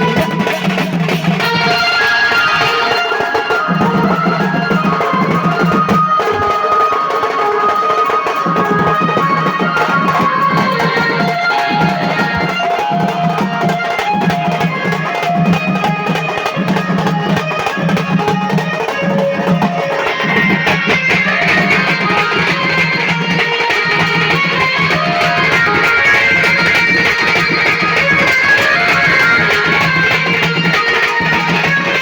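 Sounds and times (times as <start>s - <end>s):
drums: 0.0s - 32.0s.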